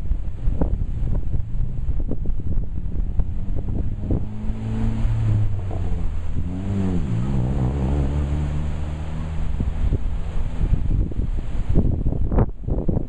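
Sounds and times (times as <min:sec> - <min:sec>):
engine running: 0:00.0 - 0:12.4
wind buffeting microphone: 0:00.0 - 0:13.0.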